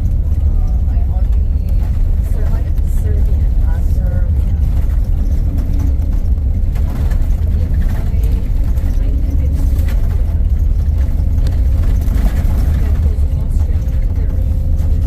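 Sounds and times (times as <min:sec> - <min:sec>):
motor vehicle engine rumble: 0:00.0 - 0:15.0.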